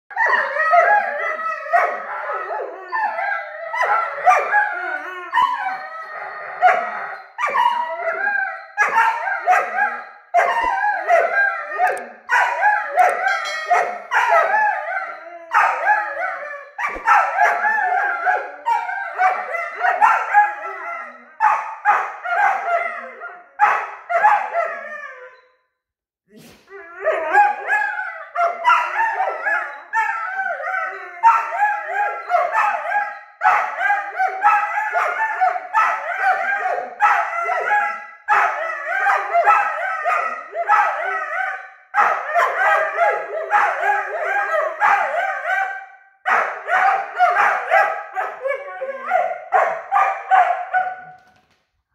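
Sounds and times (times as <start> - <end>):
puppies howling: 0.1 - 25.4, 26.7 - 51.0
puppies barking: 0.2 - 24.8, 27.1 - 51.0.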